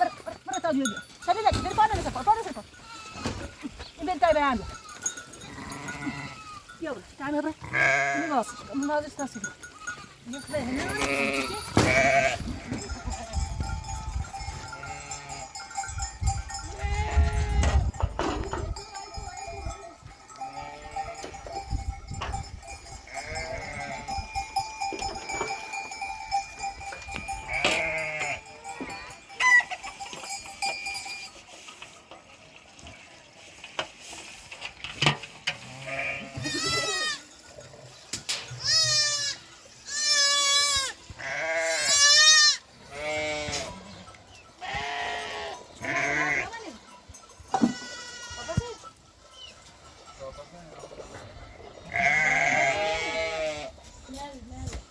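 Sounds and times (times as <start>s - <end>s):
sheep and goats bleating: 0.0s - 31.3s, 35.5s - 50.3s, 51.0s - 53.9s
livestock bells clanking: 0.0s - 32.3s, 35.9s - 40.6s, 41.2s - 54.9s.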